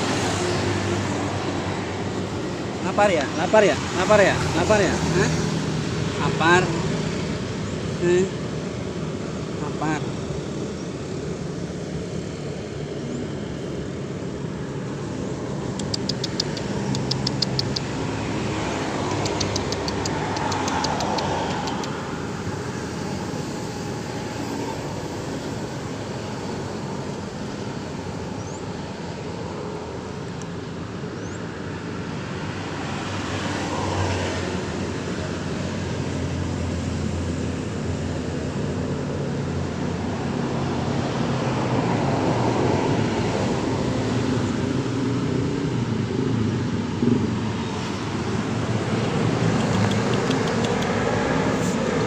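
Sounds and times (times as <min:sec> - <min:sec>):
motor vehicles passing: 0:00.0 - 0:52.0.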